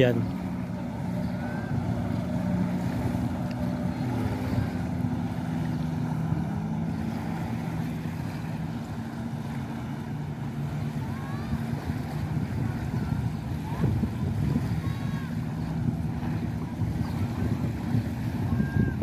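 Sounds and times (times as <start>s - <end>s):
jet ski engine running: 0.0s - 19.0s.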